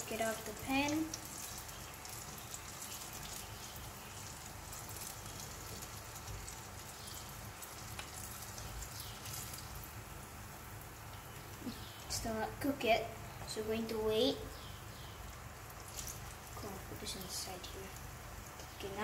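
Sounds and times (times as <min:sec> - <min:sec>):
food frying in oil: 0:00.0 - 0:19.0.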